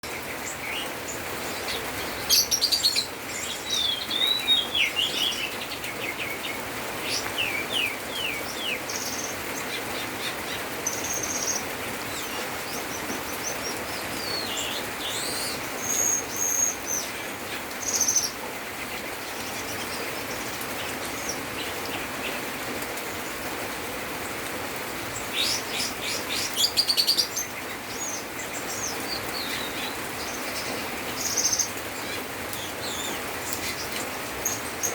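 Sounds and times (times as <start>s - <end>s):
songbird singing chirps and trills: 0.0s - 34.9s.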